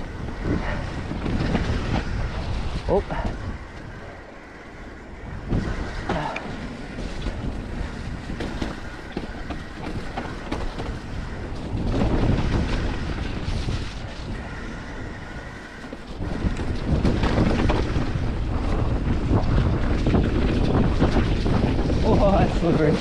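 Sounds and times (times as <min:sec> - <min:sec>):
bike knocks and rattles: 0:00.0 - 0:04.0, 0:05.3 - 0:22.8
bike tyres rolling on mud: 0:00.0 - 0:23.0
wind on microphone: 0:00.0 - 0:23.0.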